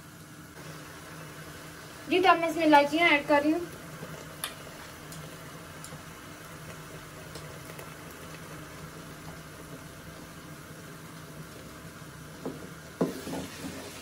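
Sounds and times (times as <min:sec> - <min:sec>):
mixture bubbling and sizzling in pot: 0:00.0 - 0:14.0.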